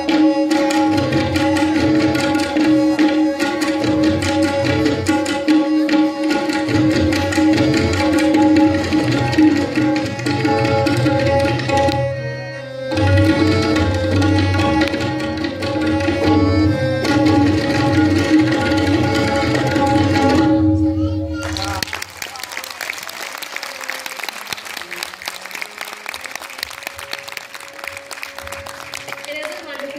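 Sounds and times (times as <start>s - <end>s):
harmonium sustained notes: 0.0s - 21.3s, 22.6s - 29.9s
tabla drumming: 0.0s - 29.9s.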